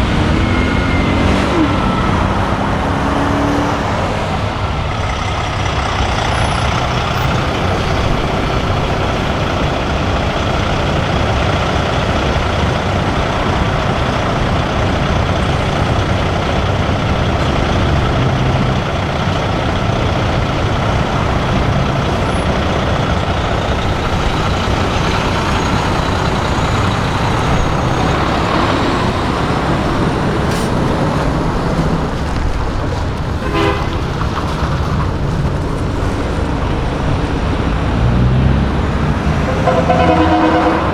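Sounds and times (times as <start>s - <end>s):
diesel truck engines running: 0.0s - 40.9s.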